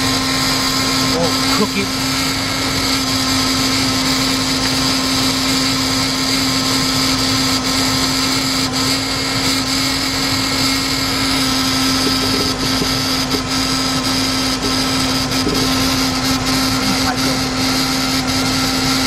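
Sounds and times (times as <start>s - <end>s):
rough car engine idling: 0.0s - 19.0s.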